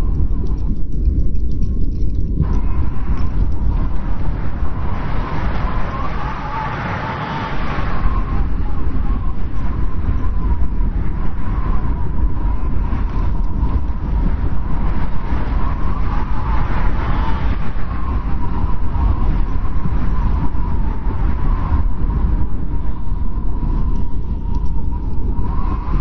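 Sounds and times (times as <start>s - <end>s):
faint wind whistling: 0.0s - 26.0s
strong wind blowing: 0.0s - 26.0s.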